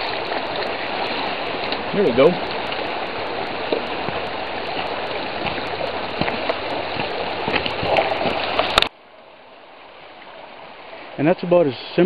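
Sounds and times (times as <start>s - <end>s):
creek rushing over stones: 0.0s - 12.0s.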